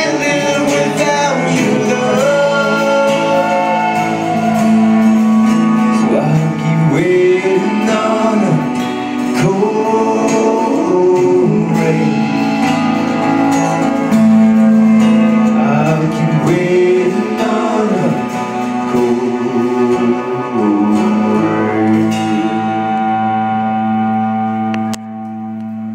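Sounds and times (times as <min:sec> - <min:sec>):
man singing: 0:00.0 - 0:13.2, 0:15.3 - 0:23.3
drums: 0:00.0 - 0:22.8
acoustic guitar: 0:00.0 - 0:25.9
electric guitar: 0:00.0 - 0:25.9
keyboard: 0:00.0 - 0:25.9.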